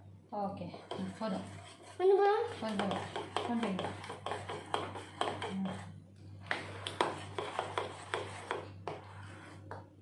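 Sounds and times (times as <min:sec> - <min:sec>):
spoon stirring batter in glass bowl: 0:00.6 - 0:10.0.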